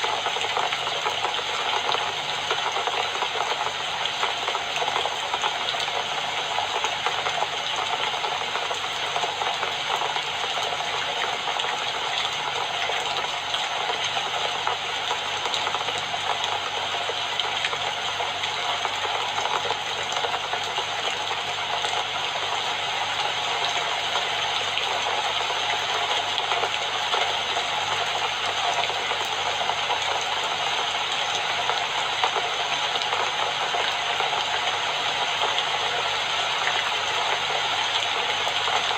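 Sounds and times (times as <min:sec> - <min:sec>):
dense rainfall hiss: 0:00.0 - 0:38.9.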